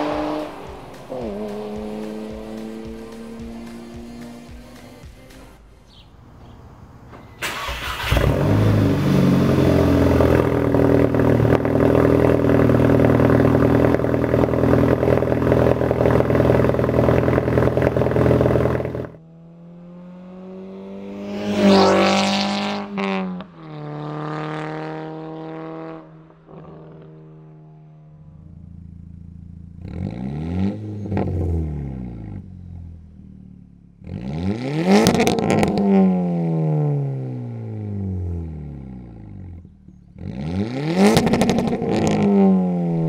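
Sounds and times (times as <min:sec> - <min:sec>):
car engine idling and revving: 0:00.0 - 0:43.0.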